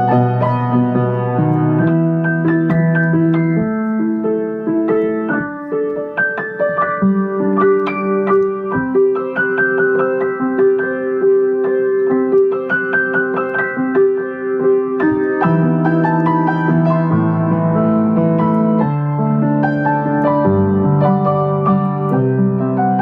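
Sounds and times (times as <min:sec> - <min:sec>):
solo piano melody: 0:00.0 - 0:23.0.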